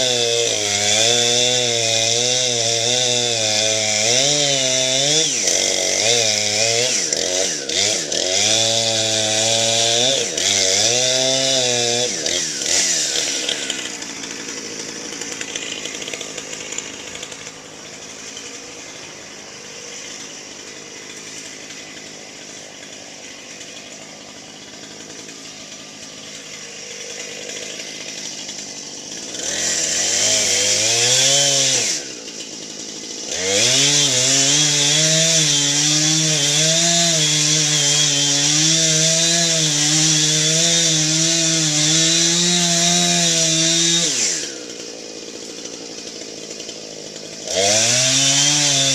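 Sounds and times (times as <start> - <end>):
chainsaw revving and cutting wood: 0.0 - 48.9.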